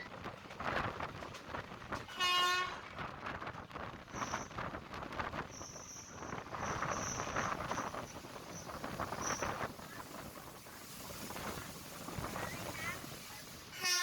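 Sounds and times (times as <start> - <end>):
train rattle and rail noise: 0.0 - 14.0.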